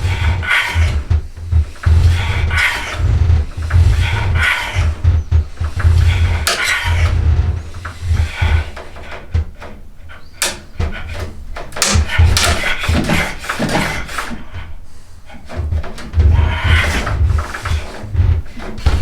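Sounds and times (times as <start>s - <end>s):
hand tool scraping wood: 0.0s - 19.0s
sharp knocks and clicks: 0.0s - 19.0s.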